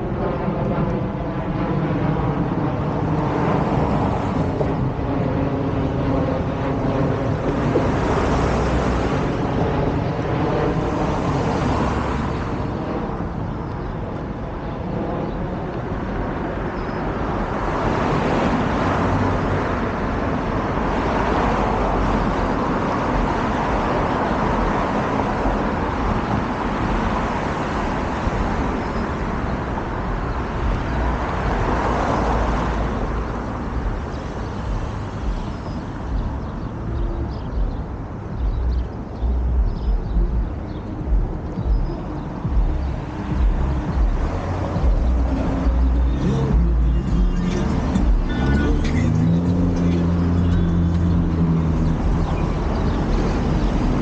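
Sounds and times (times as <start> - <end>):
cars passing: 0.0 - 54.0
vehicle engine hum: 0.0 - 54.0.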